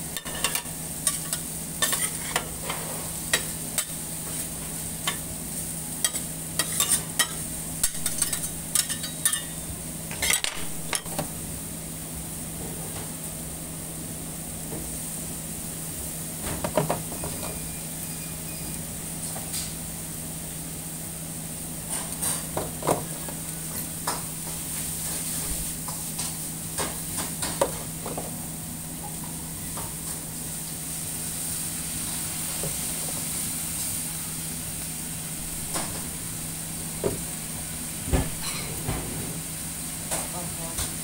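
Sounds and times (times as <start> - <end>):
rice sizzling on a griddle: 0.0 - 41.0.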